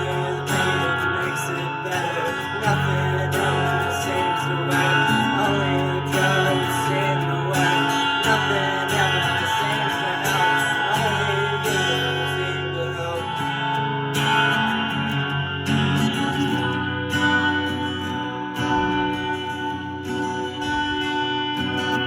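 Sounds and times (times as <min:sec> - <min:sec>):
live band with guitar: 0:00.0 - 0:22.0.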